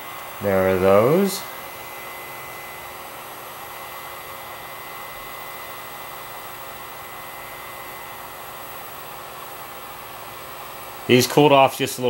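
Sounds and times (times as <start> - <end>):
heat gun hissing: 0.0 - 12.0.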